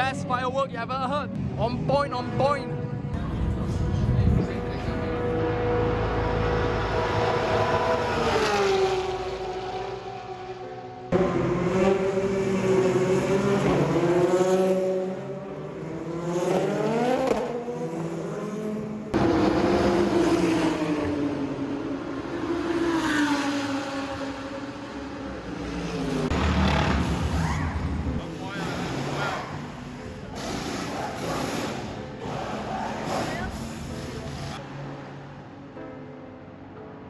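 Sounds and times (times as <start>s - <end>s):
race car engine accelerating: 3.2s - 34.6s.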